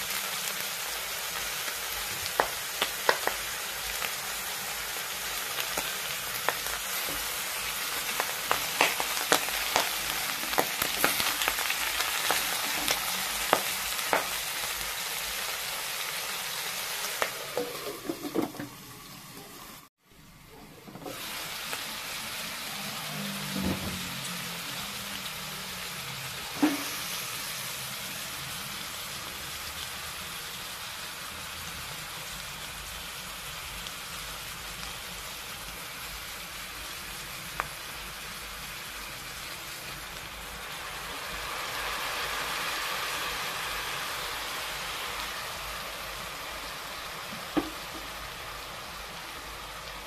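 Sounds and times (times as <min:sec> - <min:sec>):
vegetables sizzling in a pot: 0:00.0 - 0:50.0.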